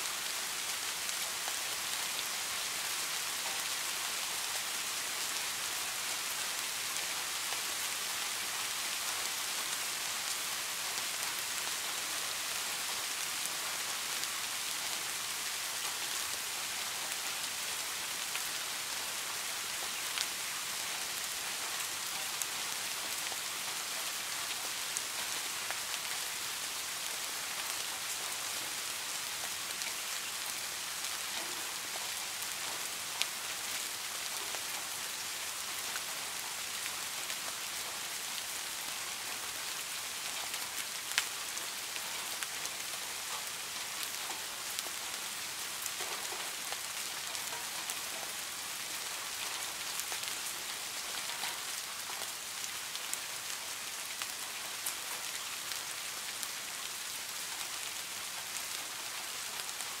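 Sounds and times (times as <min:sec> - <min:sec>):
soft rain falling: 0:00.0 - 1:00.0.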